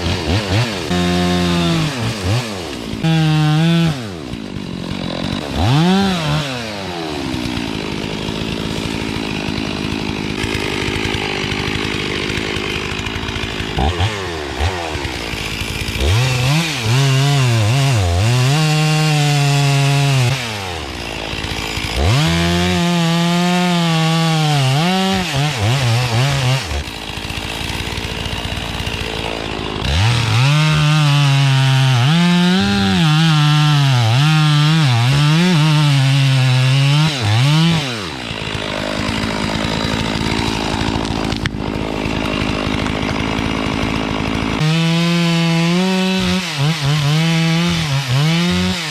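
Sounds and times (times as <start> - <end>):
chainsaw cutting trees: 0.0 - 48.9.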